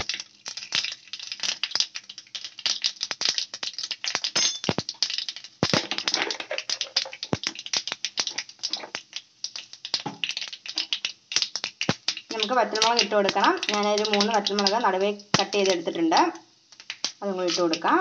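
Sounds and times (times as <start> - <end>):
mustard seeds popping in oil: 0.0 - 18.0.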